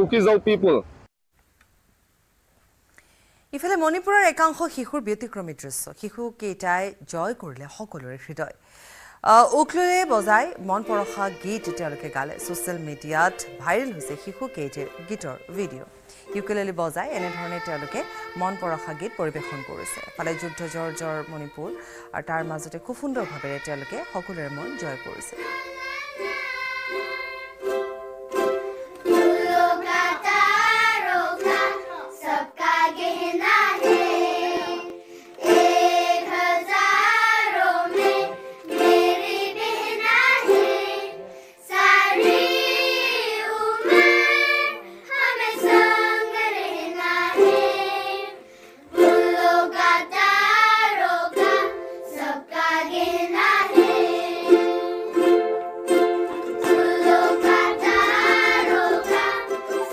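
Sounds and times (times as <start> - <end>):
ukuleles strumming: 9.8 - 59.9
children singing: 10.2 - 16.4, 17.1 - 59.9.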